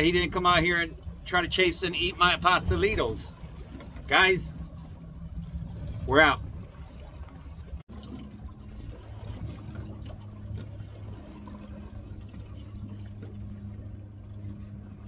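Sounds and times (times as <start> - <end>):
steady low hum: 0.0 - 15.0
water lapping against boat hull: 0.0 - 15.0.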